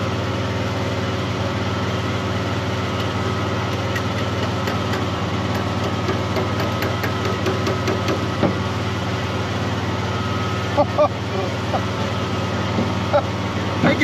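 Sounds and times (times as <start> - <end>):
welder engine idling: 0.0 - 14.0.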